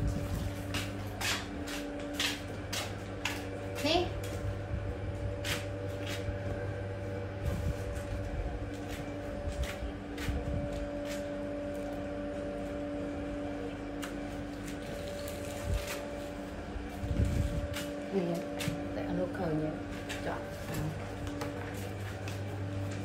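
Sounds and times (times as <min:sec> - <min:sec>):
electric machine hum: 0:00.0 - 0:23.0.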